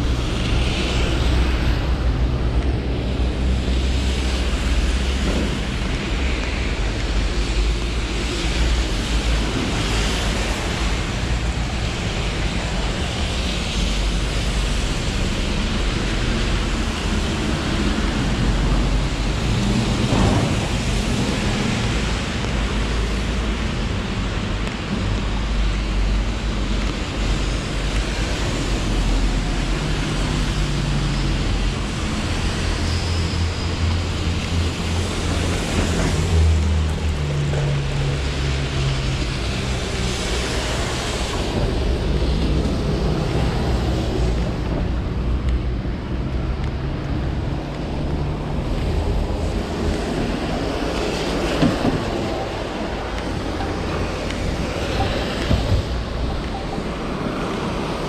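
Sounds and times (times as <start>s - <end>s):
car tyres hissing on wet road: 0.0s - 58.0s
wind rumbling on microphone: 0.0s - 58.0s.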